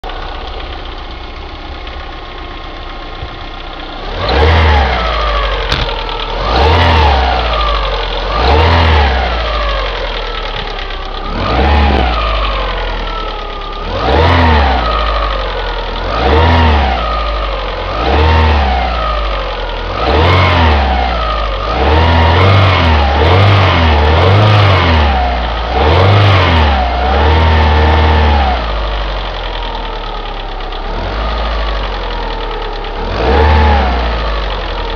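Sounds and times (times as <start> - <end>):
car engine idling and revving: 0.0 - 34.9
engine ticking: 0.0 - 34.9.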